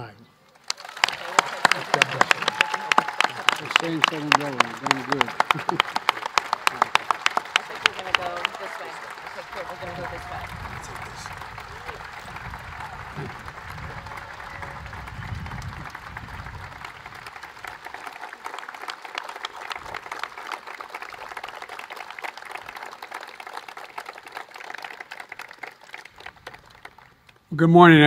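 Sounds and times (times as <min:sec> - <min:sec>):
crowd applauding: 0:00.6 - 0:27.3.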